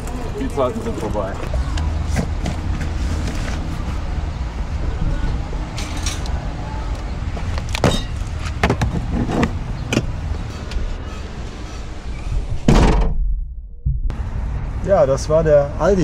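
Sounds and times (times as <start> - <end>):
car rumbling: 0.0 - 16.0.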